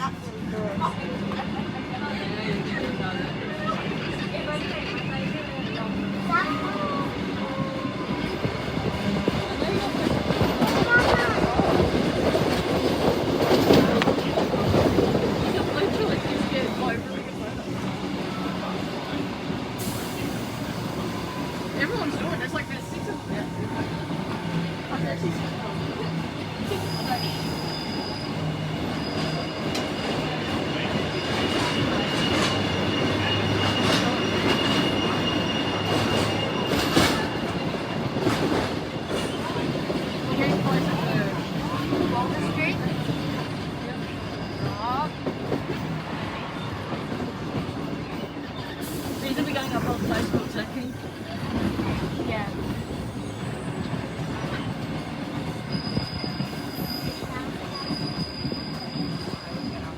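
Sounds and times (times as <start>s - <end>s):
train rumbling on track: 0.0s - 59.9s
train wheels squealing: 2.4s - 59.9s.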